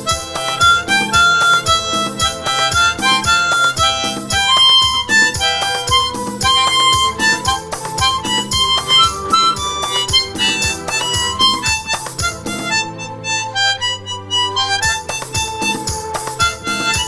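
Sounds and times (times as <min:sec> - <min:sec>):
harmonica playing lively tune: 0:00.0 - 0:17.0.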